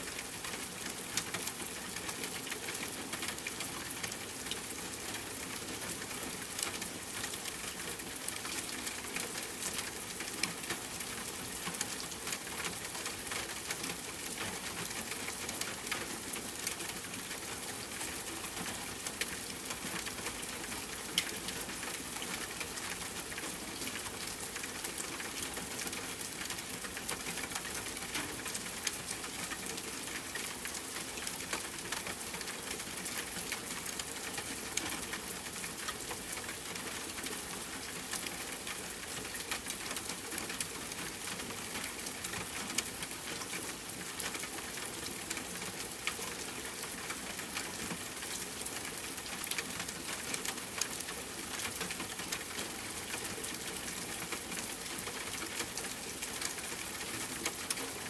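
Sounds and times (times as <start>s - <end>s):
raindrops ticking on surface: 0.0s - 58.0s.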